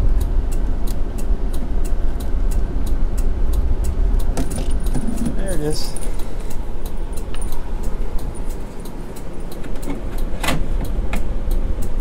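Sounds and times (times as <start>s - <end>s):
low steady hum: 0.0s - 12.0s
turn signal flasher clicking: 0.0s - 12.0s.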